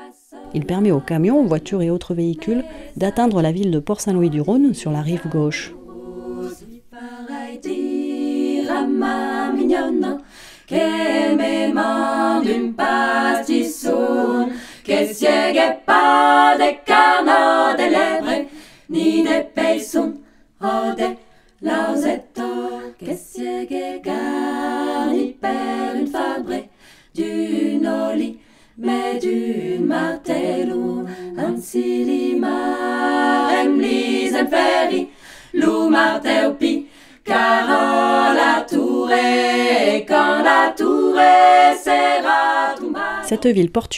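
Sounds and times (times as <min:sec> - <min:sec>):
choir singing a cappella: 0:00.0 - 0:43.5.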